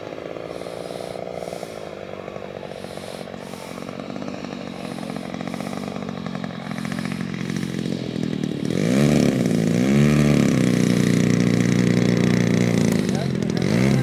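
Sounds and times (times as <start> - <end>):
model plane engine: 0.0 - 14.0.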